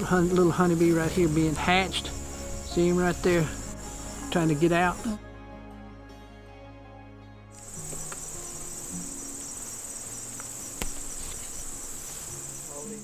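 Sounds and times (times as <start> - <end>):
crickets trilling: 0.0 - 5.2, 7.6 - 13.0.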